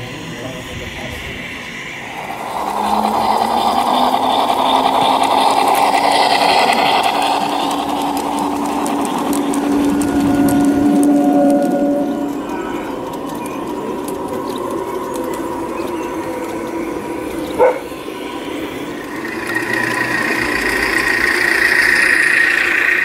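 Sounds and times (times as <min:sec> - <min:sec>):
hum: 0:00.0 - 0:23.0
model train whirring: 0:00.0 - 0:23.0
faint clicking on rails: 0:02.2 - 0:23.0.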